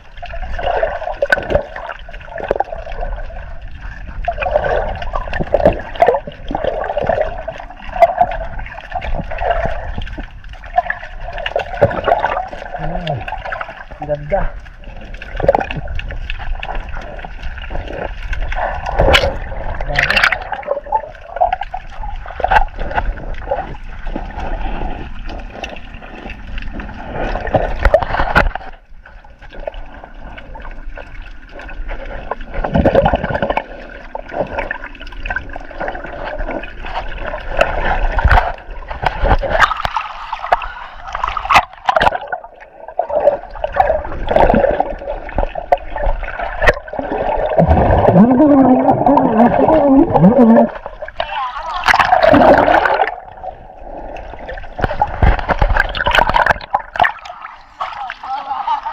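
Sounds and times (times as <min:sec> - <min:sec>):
bubbling: 0:00.0 - 0:58.9
muffled water sloshing: 0:00.0 - 0:58.9.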